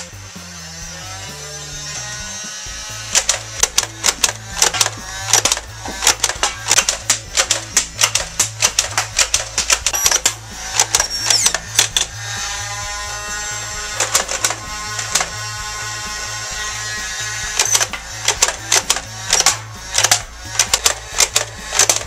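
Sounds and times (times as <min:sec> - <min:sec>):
background music: 0:00.0 - 0:22.0
motor whirring: 0:00.0 - 0:22.0
dart blaster clicking shots: 0:03.1 - 0:12.6, 0:13.2 - 0:22.0.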